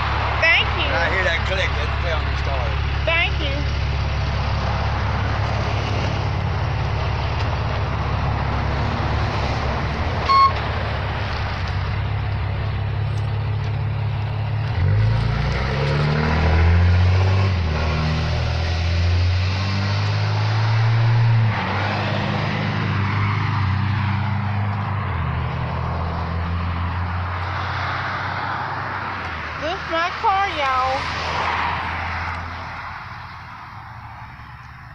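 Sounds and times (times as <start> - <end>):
truck engine revving: 0.0 - 34.2.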